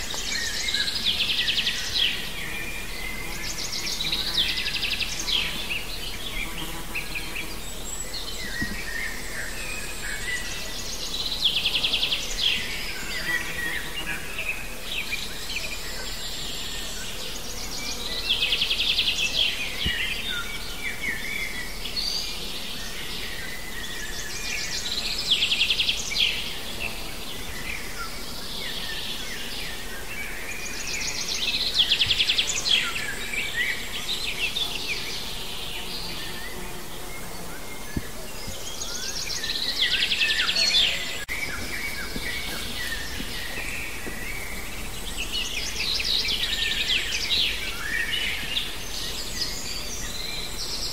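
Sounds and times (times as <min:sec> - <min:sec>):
songbirds singing: 0:00.0 - 0:50.9
steady low hiss: 0:00.0 - 0:50.9.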